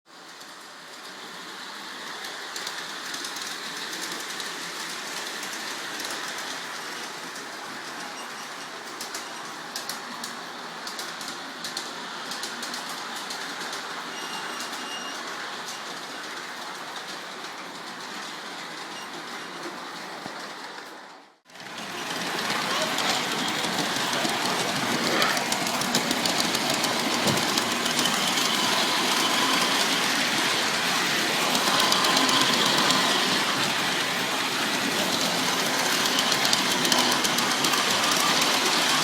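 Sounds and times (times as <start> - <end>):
model train whirring rumble: 0.1 - 39.0.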